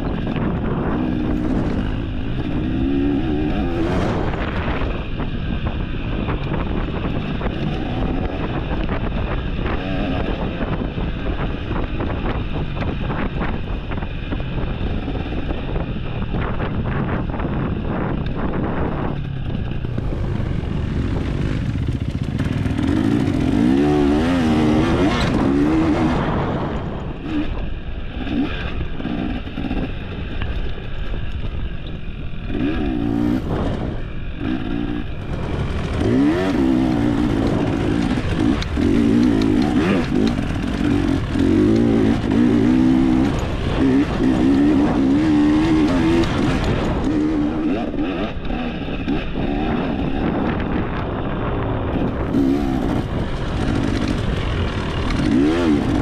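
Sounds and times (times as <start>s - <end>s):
dirt bike engine revving: 0.0s - 16.6s, 18.8s - 30.4s, 32.3s - 56.0s.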